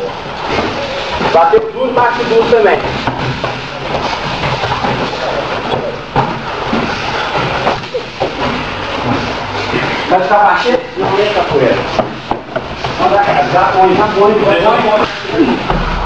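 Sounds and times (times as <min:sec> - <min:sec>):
indistinct voices and room noise: 0:00.0 - 0:16.0.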